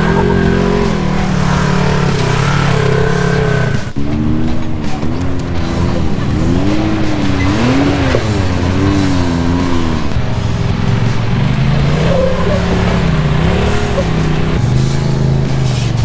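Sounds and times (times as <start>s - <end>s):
music: 0.0s - 16.0s
utility vehicle engine revving: 0.0s - 16.0s.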